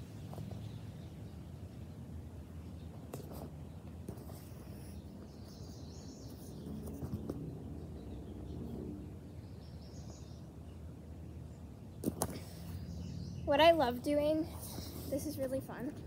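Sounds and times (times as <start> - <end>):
birds chirping faintly: 0.0 - 16.0
low background hum: 0.0 - 16.0.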